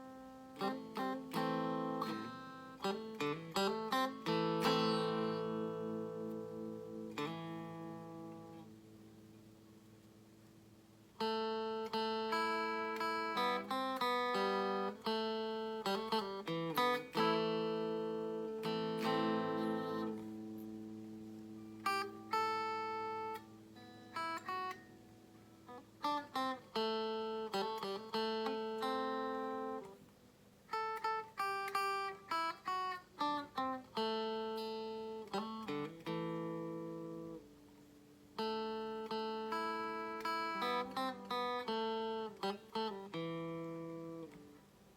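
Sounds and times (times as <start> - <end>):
clean electric guitar playing: 0.0 - 10.0, 11.1 - 30.1, 30.7 - 44.7.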